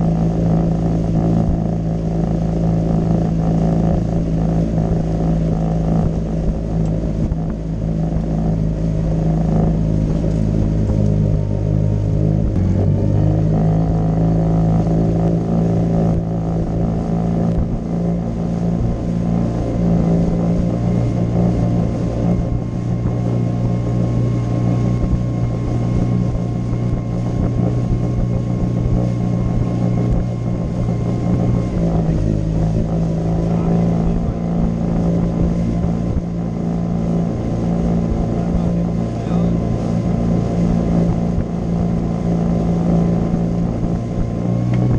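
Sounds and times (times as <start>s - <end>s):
outboard motor running: 0.0s - 44.9s
water rushing past hull: 0.0s - 44.9s.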